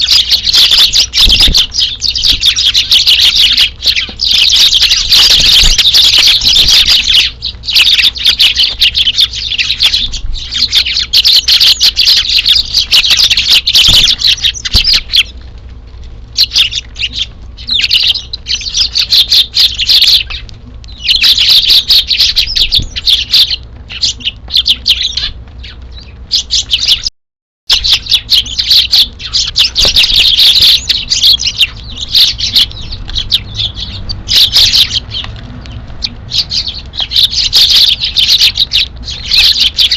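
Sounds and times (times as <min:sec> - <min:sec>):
sparrows chirping: 0:00.0 - 0:27.1, 0:27.7 - 0:39.9.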